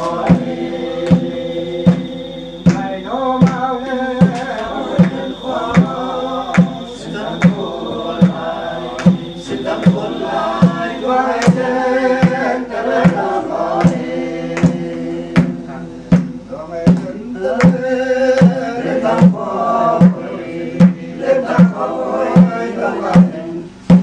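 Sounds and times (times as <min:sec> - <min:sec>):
group chanting in chorus: 0:00.0 - 0:16.4, 0:17.4 - 0:24.0
drum beat: 0:00.0 - 0:24.0.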